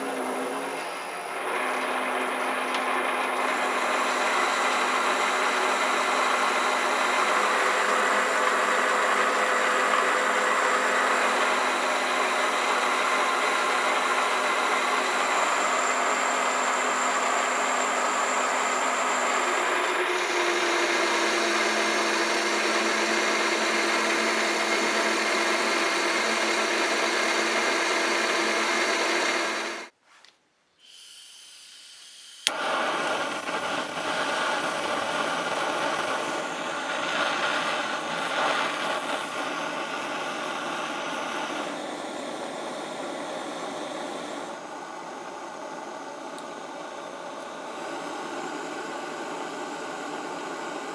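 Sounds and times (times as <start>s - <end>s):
machine tool motor and gear whine: 0.0s - 29.9s, 32.4s - 50.9s.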